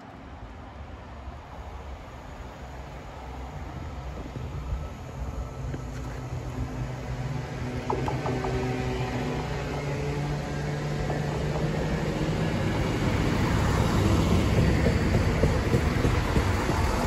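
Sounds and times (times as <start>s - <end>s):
train engine hum: 0.0s - 17.0s
wheels rumbling on rails: 0.0s - 17.0s.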